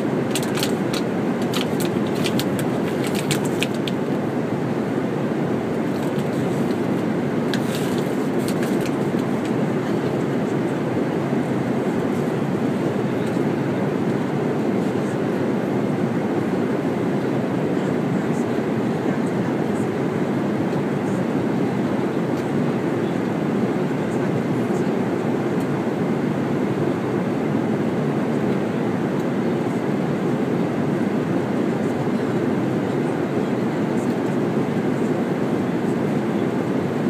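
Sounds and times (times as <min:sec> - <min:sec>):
jet airliner cabin noise: 0:00.0 - 0:37.0.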